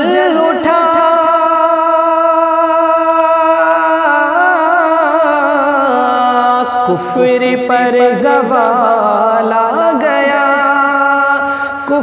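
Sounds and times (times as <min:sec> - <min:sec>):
man singing solo: 0:00.0 - 0:12.0.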